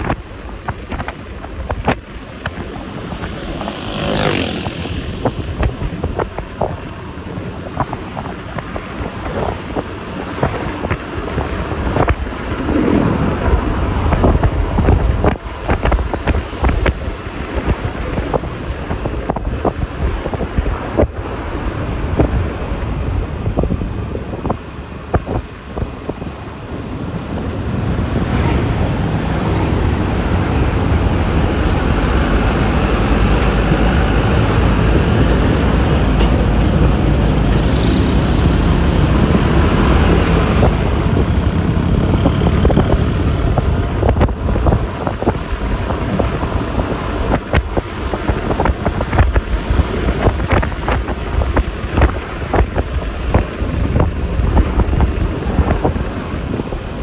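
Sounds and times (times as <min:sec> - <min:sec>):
road noise: 0:00.0 - 0:57.0
wind rushing over microphone: 0:00.0 - 0:57.0.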